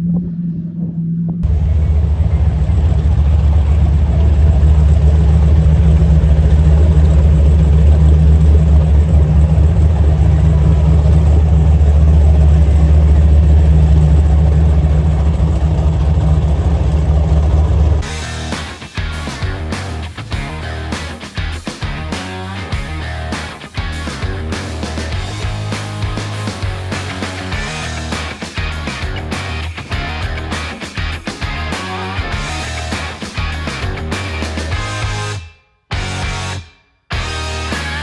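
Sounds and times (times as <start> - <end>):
engine with deep exhaust rumble: 0.0 - 30.8.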